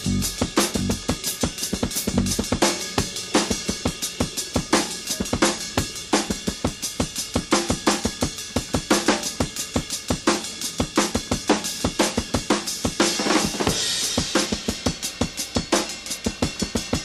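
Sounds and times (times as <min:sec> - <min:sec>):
rock drum kit playing: 0:00.0 - 0:17.0.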